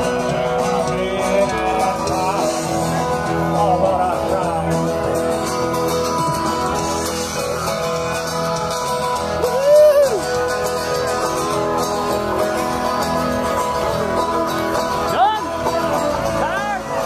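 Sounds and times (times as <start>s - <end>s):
country band music: 0.0s - 17.0s.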